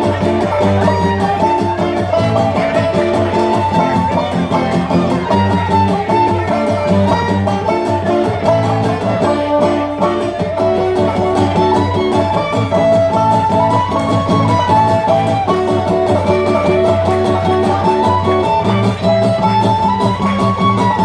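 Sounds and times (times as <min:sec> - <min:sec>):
acoustic guitar: 0:00.0 - 0:21.0
banjo: 0:00.0 - 0:21.0
fiddle melody: 0:00.0 - 0:21.0.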